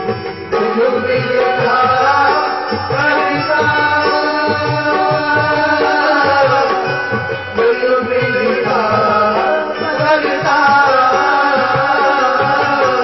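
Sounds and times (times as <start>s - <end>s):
tabla playing: 0.0s - 13.0s.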